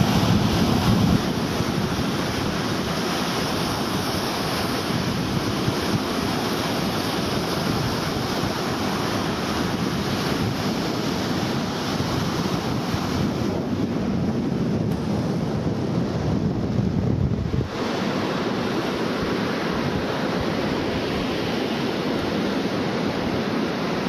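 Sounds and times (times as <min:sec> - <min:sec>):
sea surf: 0:00.0 - 0:24.0
wind buffeting microphone: 0:00.0 - 0:24.0.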